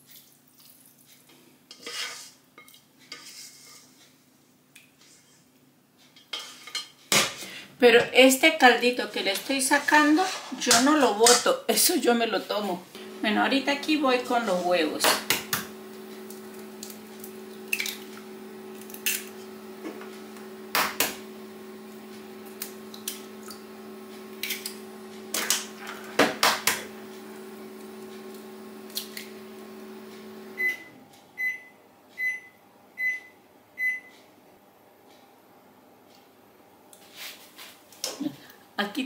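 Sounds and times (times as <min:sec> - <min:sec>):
appliance hum: 0:05.5 - 0:39.0.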